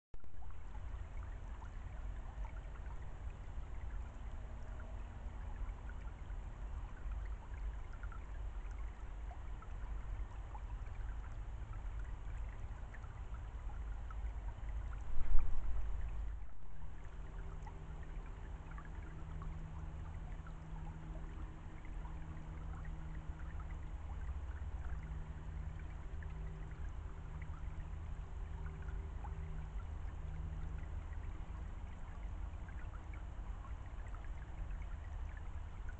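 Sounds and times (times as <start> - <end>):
low hum: 0.2 - 35.9
low rushing background noise: 0.2 - 35.9.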